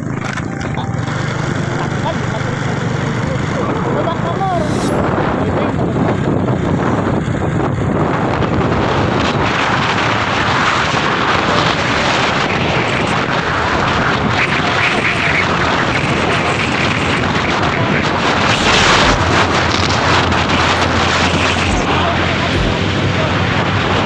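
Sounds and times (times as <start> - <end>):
motorcycle engine: 0.0 - 24.0
road noise: 0.0 - 24.0
wind buffeting microphone: 2.7 - 24.0.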